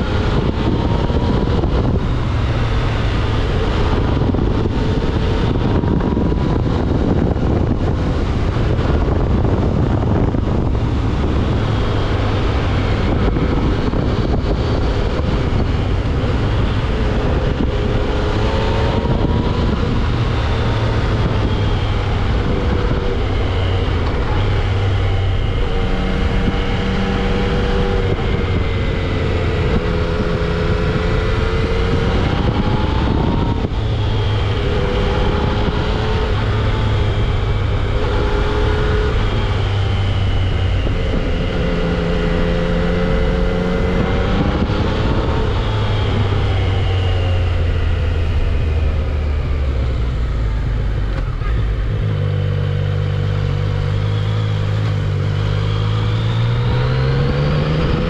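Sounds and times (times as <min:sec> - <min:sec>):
motorcycle engine revving: 0:00.0 - 0:58.0
wind on microphone: 0:00.0 - 0:58.0.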